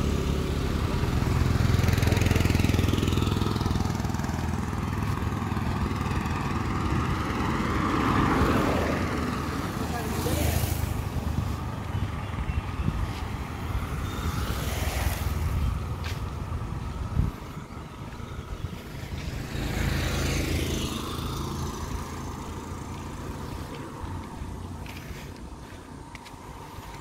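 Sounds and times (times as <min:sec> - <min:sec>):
vehicles passing with tyre hiss: 0:00.0 - 0:27.0.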